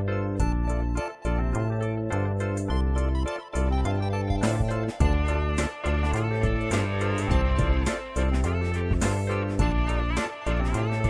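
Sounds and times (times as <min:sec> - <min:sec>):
sustained bass notes: 0:00.0 - 0:11.0.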